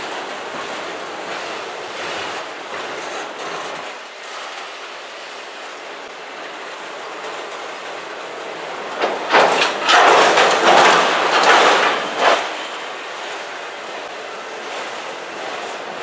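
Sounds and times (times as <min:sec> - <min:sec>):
rattling train cars clatter: 0:00.0 - 0:05.0, 0:05.6 - 0:16.0
train wheels rumbling on rail: 0:00.0 - 0:16.0.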